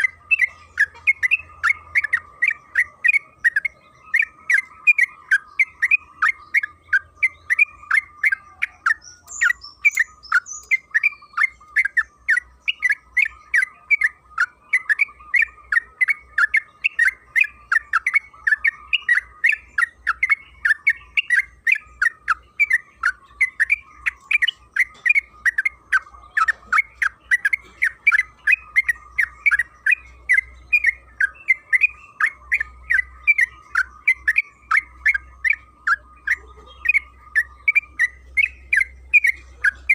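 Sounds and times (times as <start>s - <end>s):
bird chattering call: 0.0s - 39.9s
faint steady tone: 0.0s - 39.9s
high bird twitter: 0.0s - 39.9s.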